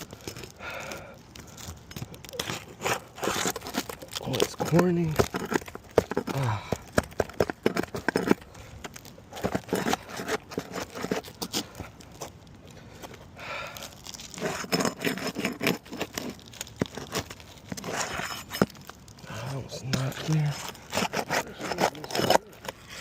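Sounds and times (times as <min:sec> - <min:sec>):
roof shingles being pried up: 0:00.0 - 0:23.0.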